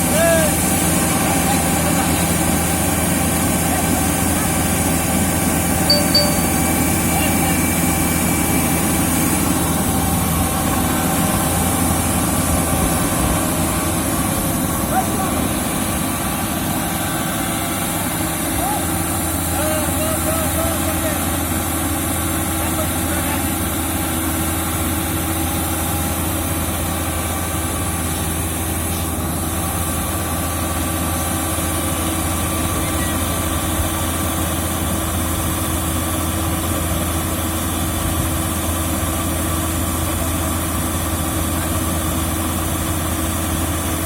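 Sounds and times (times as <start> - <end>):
diesel engine droning: 0.0 - 44.0.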